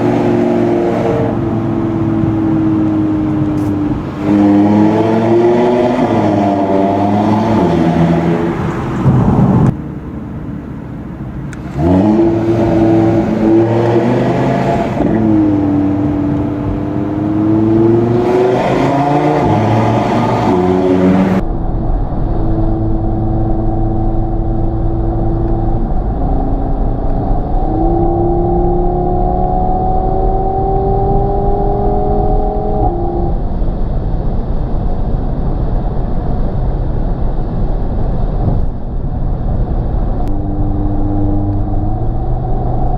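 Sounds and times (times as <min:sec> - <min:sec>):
car engine accelerating: 0:00.0 - 0:34.2, 0:37.4 - 0:42.9
low road rumble: 0:00.0 - 0:42.9.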